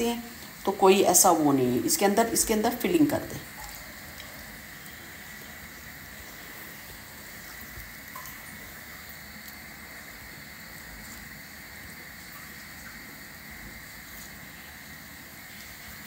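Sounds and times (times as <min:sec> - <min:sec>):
background hiss: 0:00.0 - 0:16.0
thin high whine: 0:00.0 - 0:16.0.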